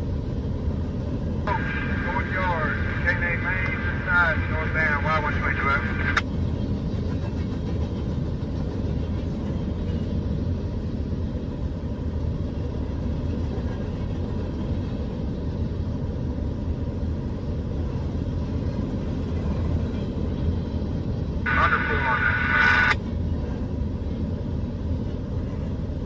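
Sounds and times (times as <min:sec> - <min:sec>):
train rolling past: 0:00.0 - 0:26.0.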